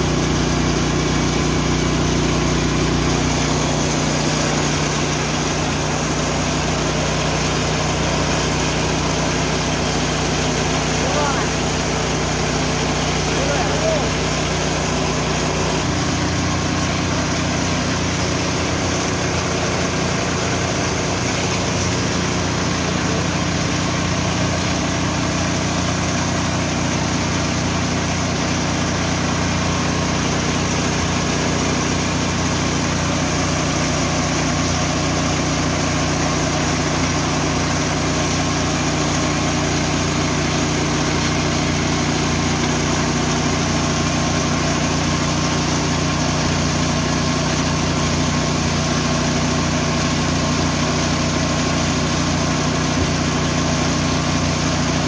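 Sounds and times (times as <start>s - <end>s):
mill engine mechanical drone: 0.0s - 55.0s.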